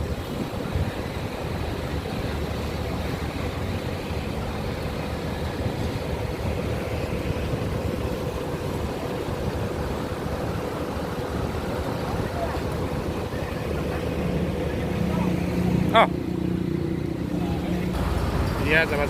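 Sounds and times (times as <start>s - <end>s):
bus engine rumbling: 0.0s - 19.0s.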